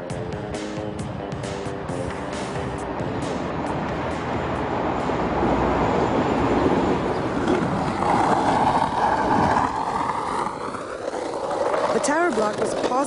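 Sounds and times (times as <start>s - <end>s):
skateboard wheels on concrete: 0.0s - 13.0s
diesel train rushing past: 1.5s - 12.0s.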